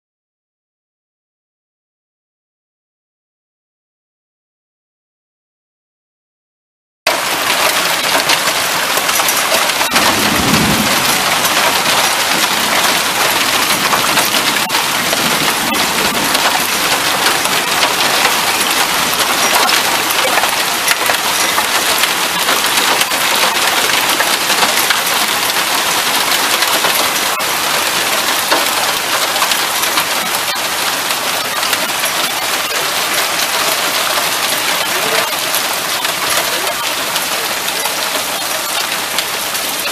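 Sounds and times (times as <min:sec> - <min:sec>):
hail and rain hitting a car: 0:07.1 - 0:39.9.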